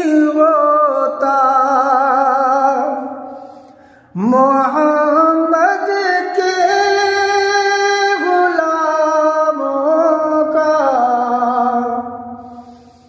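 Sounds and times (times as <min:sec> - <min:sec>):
man singing unaccompanied: 0:00.0 - 0:03.2, 0:04.2 - 0:12.4.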